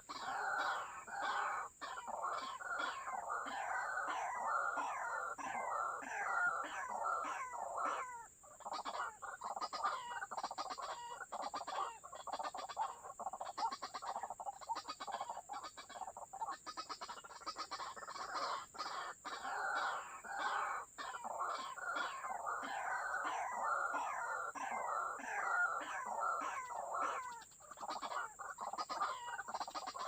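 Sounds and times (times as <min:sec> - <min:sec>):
waterhens calling: 0:00.0 - 0:30.0.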